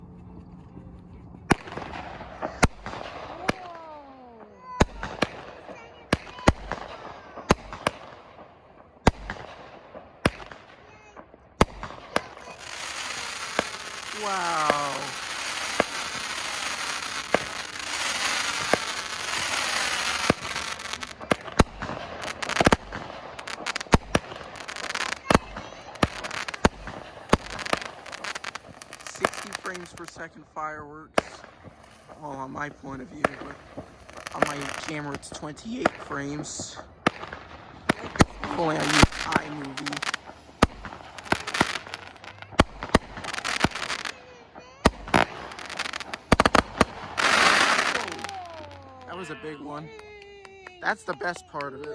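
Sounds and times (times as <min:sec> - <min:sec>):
fireworks bangs and pops: 0:01.4 - 0:51.9
fireworks hissing crackle: 0:01.4 - 0:51.9
fireworks sharp cracks: 0:01.4 - 0:51.9.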